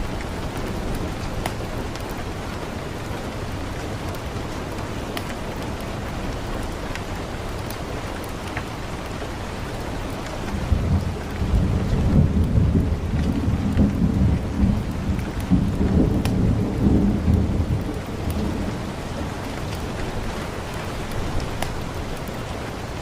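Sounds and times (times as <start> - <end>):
raindrop ticks: 0.0 - 23.0
steady rain: 0.0 - 23.0.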